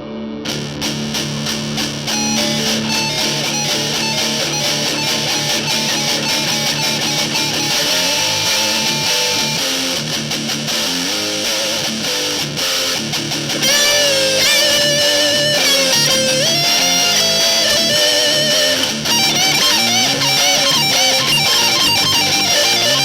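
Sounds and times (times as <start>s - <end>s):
distorted electric guitar chords: 0.0s - 23.0s
high lead guitar melody: 0.4s - 23.0s.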